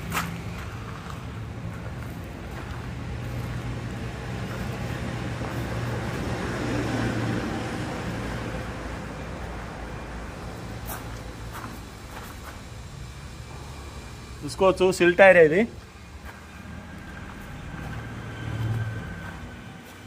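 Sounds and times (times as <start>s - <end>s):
road noise: 0.0s - 20.0s
traffic engine hum: 0.0s - 20.0s.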